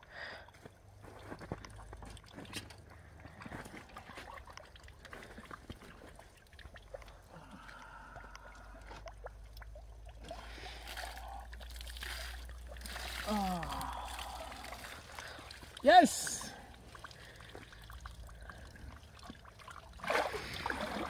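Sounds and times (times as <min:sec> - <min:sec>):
water sloshing and dripping: 0:00.5 - 0:21.0.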